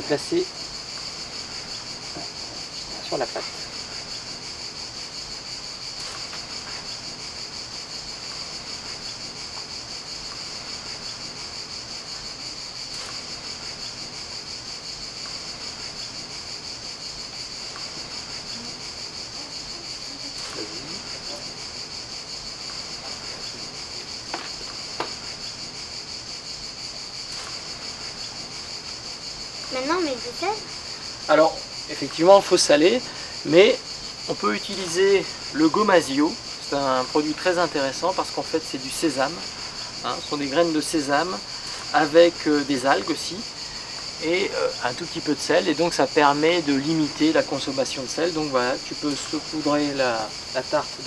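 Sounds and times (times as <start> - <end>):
cicadas buzzing: 0.0 - 51.0.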